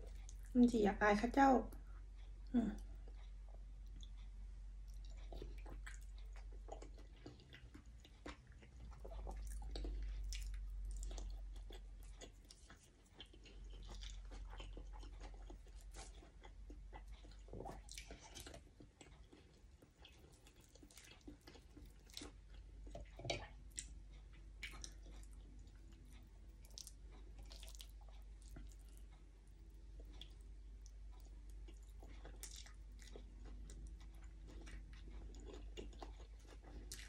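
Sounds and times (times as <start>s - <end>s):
close chewing: 2.2s - 37.0s.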